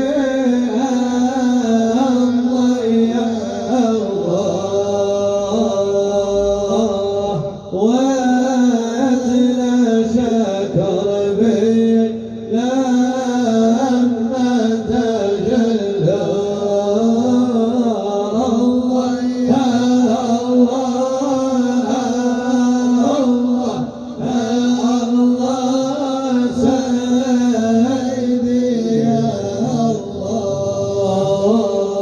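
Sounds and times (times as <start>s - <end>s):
person singing devotional chant: 0.0s - 32.0s.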